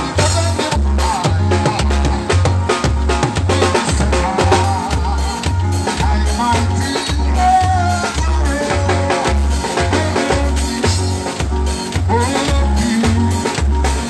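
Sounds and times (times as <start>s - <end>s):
live band playing upbeat music: 0.0s - 14.0s.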